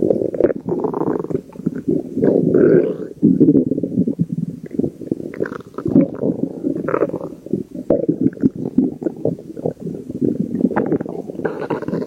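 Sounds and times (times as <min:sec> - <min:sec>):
stomach growling: 0:00.0 - 0:12.0.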